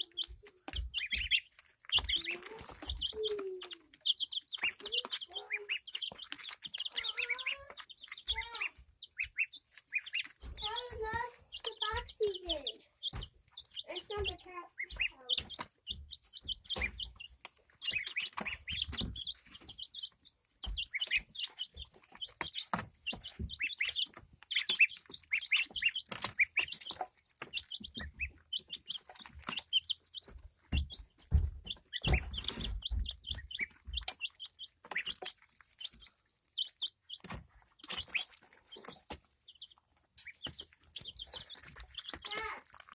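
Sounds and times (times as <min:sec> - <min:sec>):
chickens clucking: 0:00.0 - 0:42.9
chicks peeping and chirping: 0:00.0 - 0:42.9.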